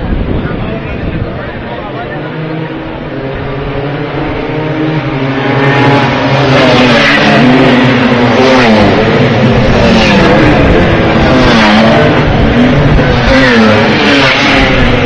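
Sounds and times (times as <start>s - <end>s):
racing motorcycles revving: 0.0s - 15.0s.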